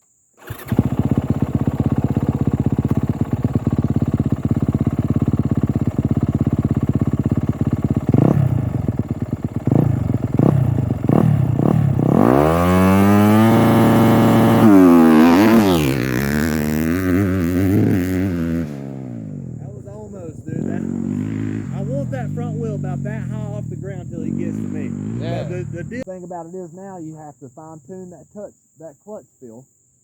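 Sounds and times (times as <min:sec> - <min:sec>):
dirt bike engine revving: 0:00.4 - 0:26.1.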